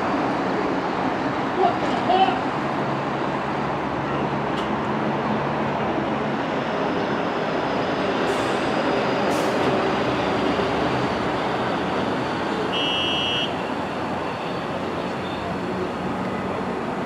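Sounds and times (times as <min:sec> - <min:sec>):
elevated subway rumble: 0:00.0 - 0:12.8, 0:13.6 - 0:17.0.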